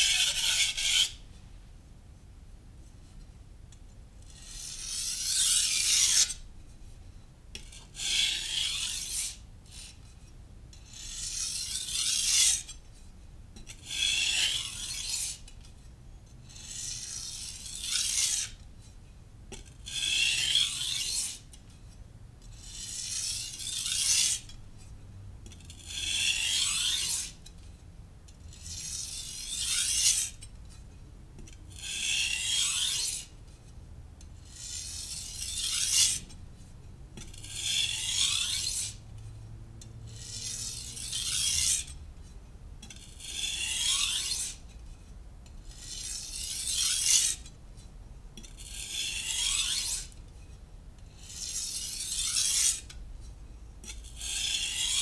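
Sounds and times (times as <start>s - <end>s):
knife scraping on whetstone: 0.0s - 1.2s, 4.2s - 6.4s, 7.6s - 18.9s, 19.5s - 39.4s, 40.1s - 42.0s, 42.8s - 55.0s.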